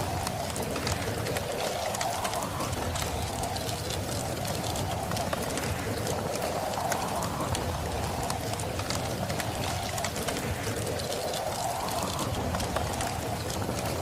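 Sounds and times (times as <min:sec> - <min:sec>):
steady wind noise: 0:00.0 - 0:14.0
wood fire crackling: 0:00.0 - 0:14.0.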